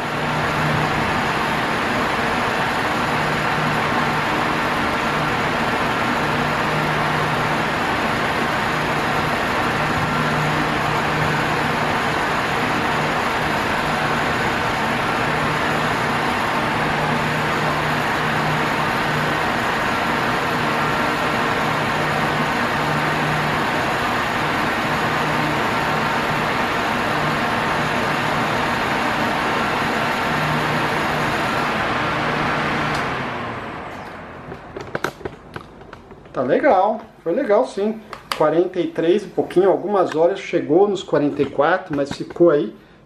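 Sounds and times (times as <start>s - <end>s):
low motor hum: 0.0s - 37.2s
fan air rushing: 0.0s - 43.0s.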